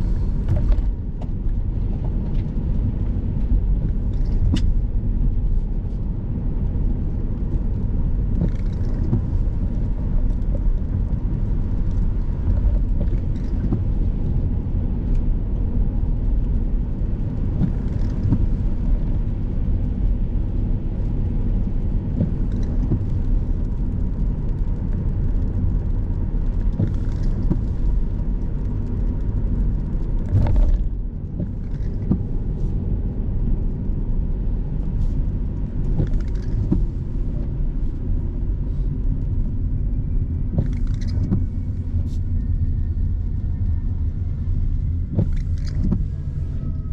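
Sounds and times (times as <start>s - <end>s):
engine and tyre rumble: 0.0s - 46.9s.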